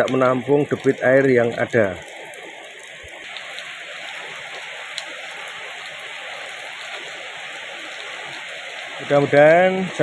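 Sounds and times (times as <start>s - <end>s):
heavy rain splashing into water: 0.0s - 10.0s.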